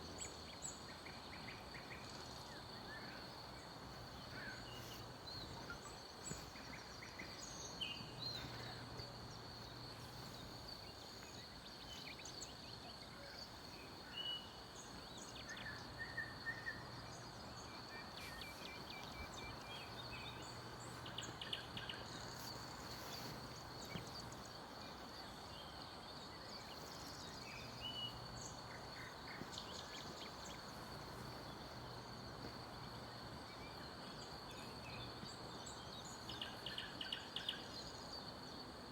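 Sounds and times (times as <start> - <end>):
faint high whine: 0.0 - 38.9
small birds chirping and trilling: 0.0 - 38.9
steady hiss: 0.0 - 38.9.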